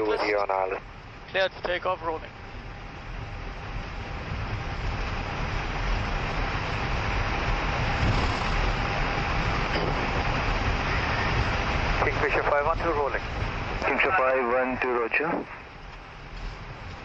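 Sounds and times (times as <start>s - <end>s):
jet engines and airflow: 0.0s - 17.0s.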